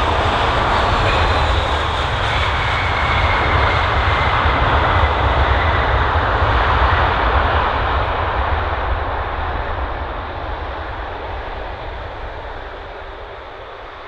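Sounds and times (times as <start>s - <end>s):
airliner engines: 0.0s - 14.0s.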